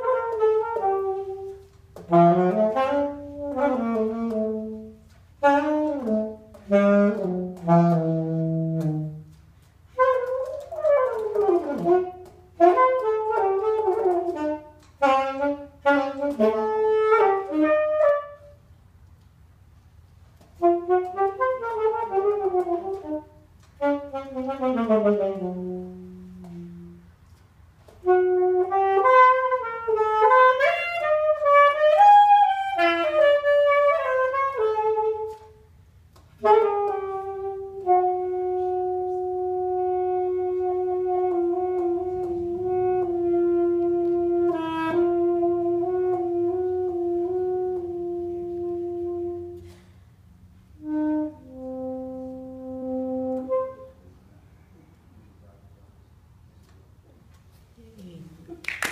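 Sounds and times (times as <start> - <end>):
alto saxophone solo: 0.0 - 58.9.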